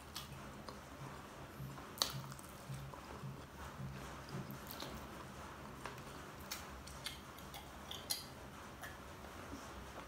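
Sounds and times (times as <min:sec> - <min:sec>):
chewing fried shrimp: 0:00.0 - 0:09.2.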